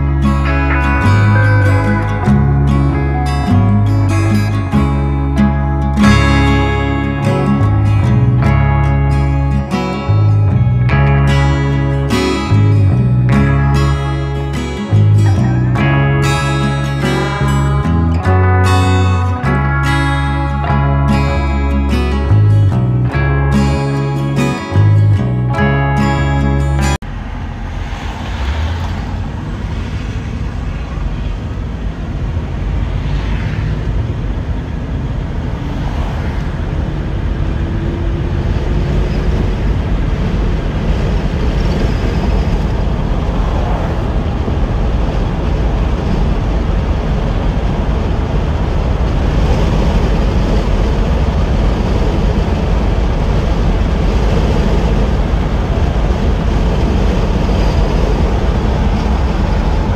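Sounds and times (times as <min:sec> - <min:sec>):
car engine: 0:00.0 - 0:59.9
road noise: 0:00.0 - 0:59.9.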